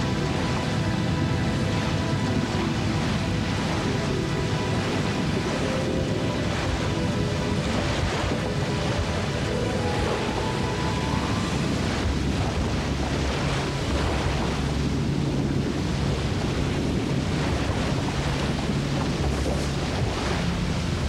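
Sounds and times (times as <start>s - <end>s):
river water rushing through rocks: 0.0s - 21.0s.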